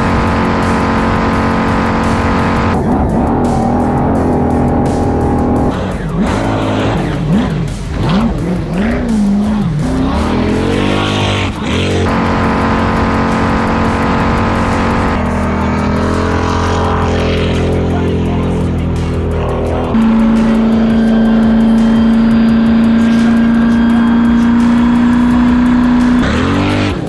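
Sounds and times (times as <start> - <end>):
jet ski engine revving: 0.0 - 27.0.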